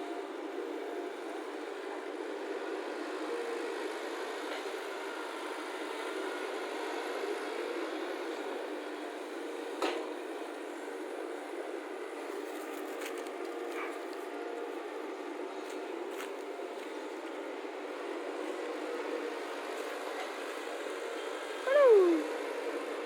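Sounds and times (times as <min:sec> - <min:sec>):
excavator engine running: 0:00.0 - 0:22.2.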